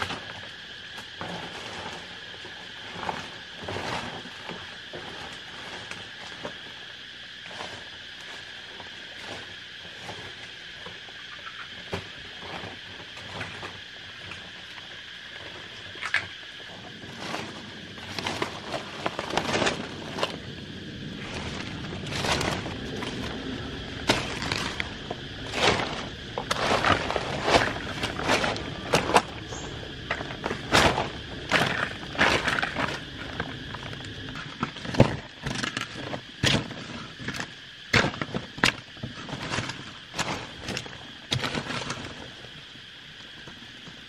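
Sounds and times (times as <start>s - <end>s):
forest insects droning: 0.0s - 44.0s
leaves rustling: 0.0s - 44.0s.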